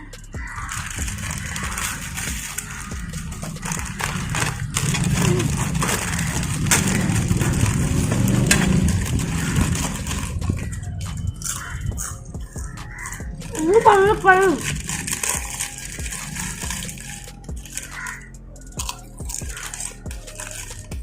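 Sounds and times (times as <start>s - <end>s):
potato chips crunched and chewed: 0.1s - 21.0s
chip packet crinkling: 0.3s - 21.0s.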